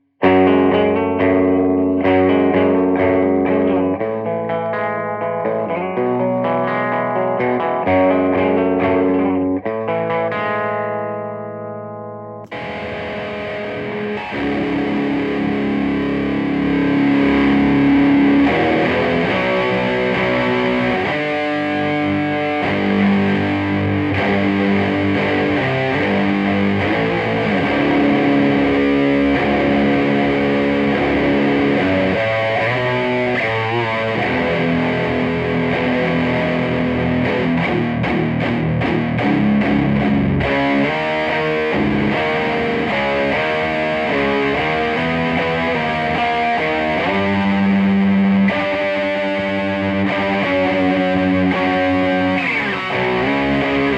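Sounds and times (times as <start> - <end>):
distorted electric guitar riffs: 0.0 - 53.9.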